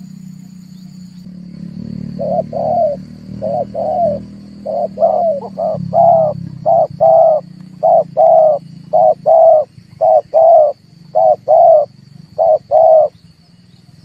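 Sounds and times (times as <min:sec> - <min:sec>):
faint high whine: 0:00.0 - 0:14.0
dove cooing: 0:01.7 - 0:13.2.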